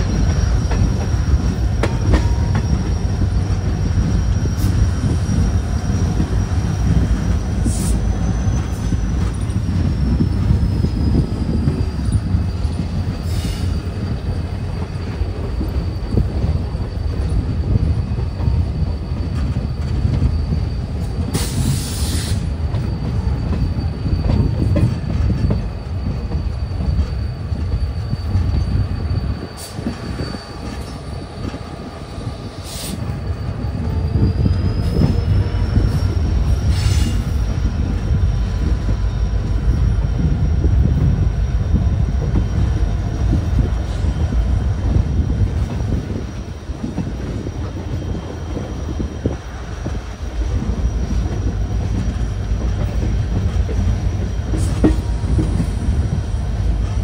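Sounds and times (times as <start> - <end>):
thin high squeal: 0.0 - 55.8
train wheels rumbling on rail: 0.0 - 57.0.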